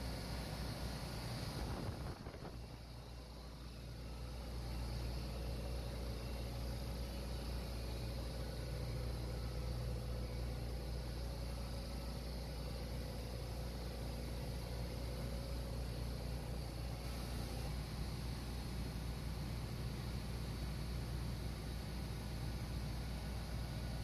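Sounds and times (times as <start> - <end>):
compressor machinery hum: 0.0 - 24.0.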